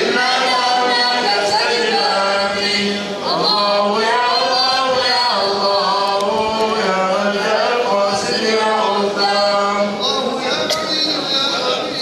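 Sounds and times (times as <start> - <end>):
men chanting religious chant: 0.0 - 12.0.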